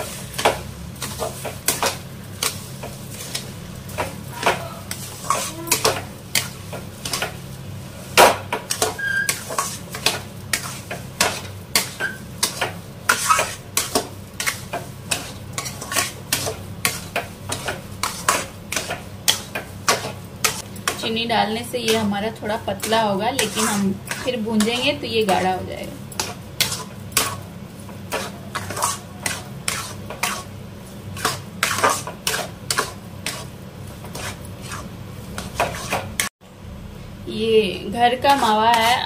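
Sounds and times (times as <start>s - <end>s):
metal spatula scraping a pan: 0.0s - 7.4s, 8.6s - 21.1s, 21.8s - 25.5s, 26.2s - 36.3s, 38.2s - 39.0s.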